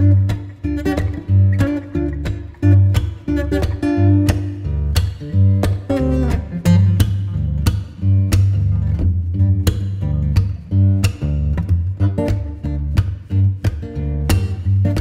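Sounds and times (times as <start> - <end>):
plucked acoustic guitar: 0.0 - 15.0
steady bass line: 0.0 - 15.0.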